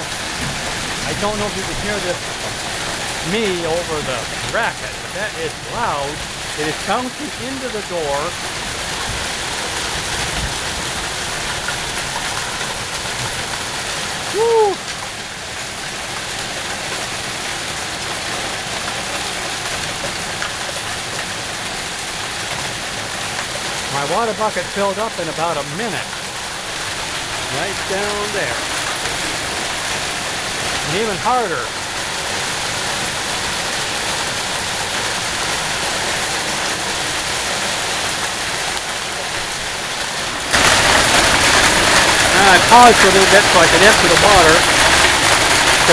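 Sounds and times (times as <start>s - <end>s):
hail pelting wooden deck: 0.0s - 45.9s.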